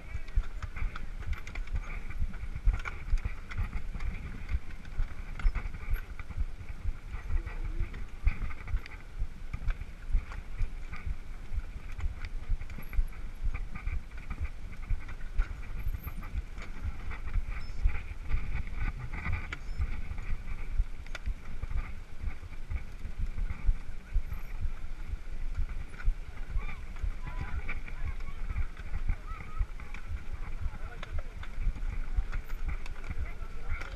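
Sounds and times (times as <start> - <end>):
bike rolling over grass: 0.0 - 33.9.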